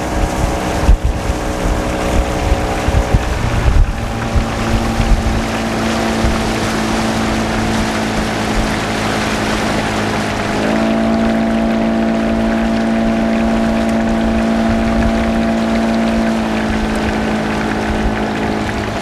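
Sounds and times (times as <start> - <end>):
outboard motor running: 0.0 - 19.0
steady rushing noise: 0.0 - 19.0.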